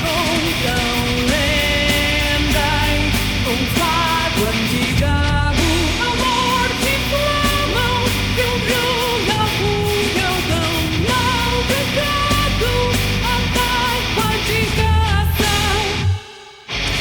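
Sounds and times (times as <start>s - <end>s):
bass guitar: 0.0s - 17.0s
distorted rhythm guitars: 0.0s - 17.0s
lead electric guitar melody: 0.0s - 17.0s
steady drums: 0.0s - 17.0s.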